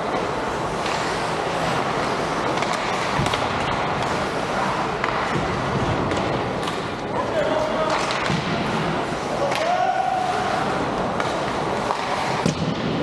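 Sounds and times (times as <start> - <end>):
skate blades scraping ice: 0.2 - 6.8, 7.8 - 12.5.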